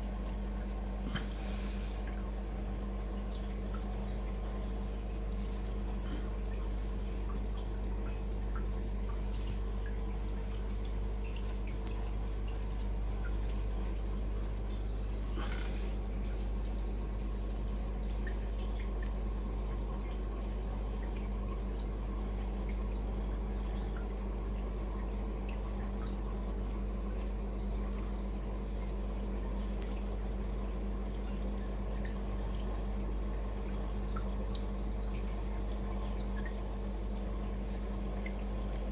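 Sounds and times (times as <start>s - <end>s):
aquarium equipment hum: 0.0s - 38.9s
water trickling and dripping: 0.0s - 38.9s.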